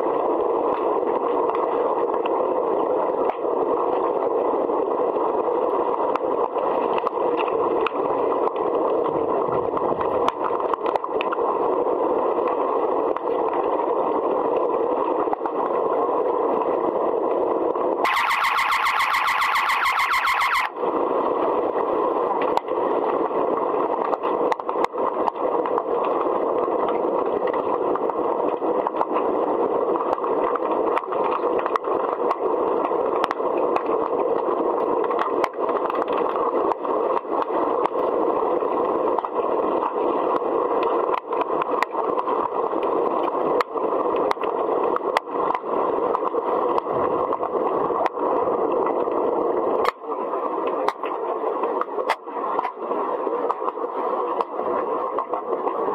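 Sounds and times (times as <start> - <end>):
muffled underwater rush: 0.0 - 55.9.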